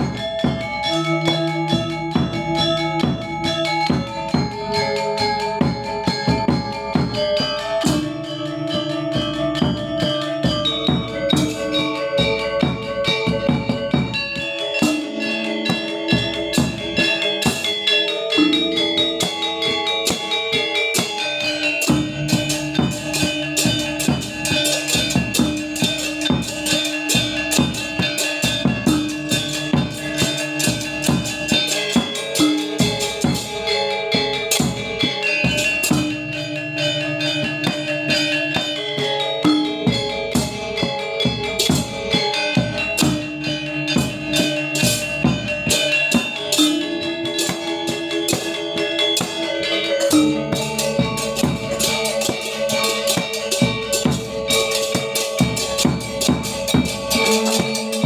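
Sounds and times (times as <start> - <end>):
drums: 0.0 - 58.0
metallophones struck in fast patterns: 0.0 - 58.0.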